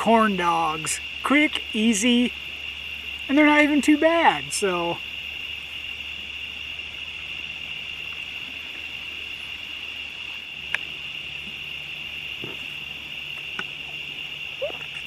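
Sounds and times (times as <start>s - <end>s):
insect chorus trilling: 0.0s - 15.0s.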